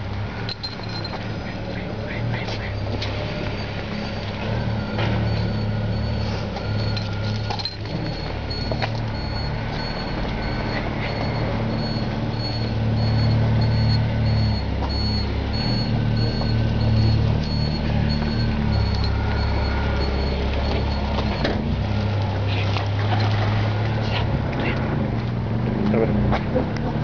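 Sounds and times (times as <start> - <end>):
large engine idling: 0.0 - 25.5.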